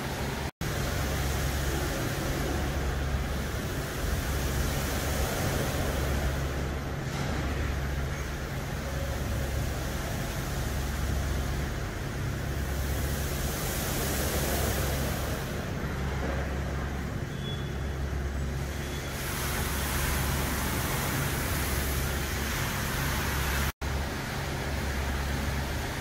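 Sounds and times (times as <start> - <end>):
water spray and spinning brushes: 0.0 - 17.3, 18.0 - 26.0
low mechanical rumble and hum: 0.0 - 26.0.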